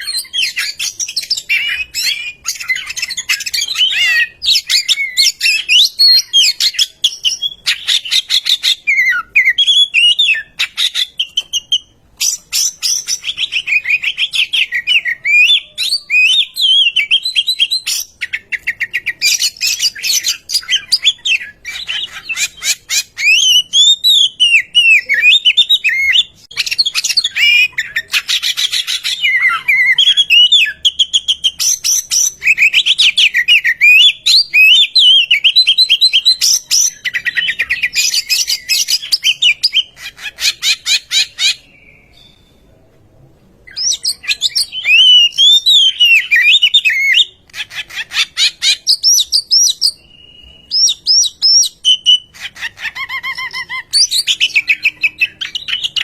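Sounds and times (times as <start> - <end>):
bird singing whistled phrases: 0.0 - 42.6, 43.7 - 56.0.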